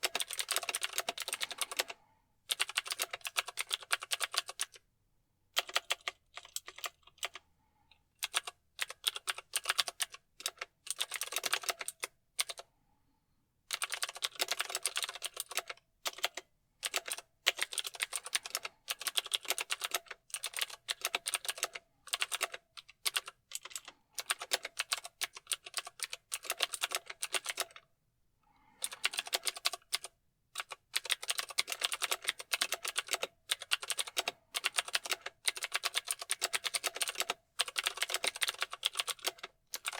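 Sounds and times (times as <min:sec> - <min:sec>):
mechanical keyboard typing: 0:00.0 - 0:04.8, 0:05.6 - 0:07.4, 0:08.2 - 0:12.6, 0:13.7 - 0:27.8, 0:28.8 - 0:39.9.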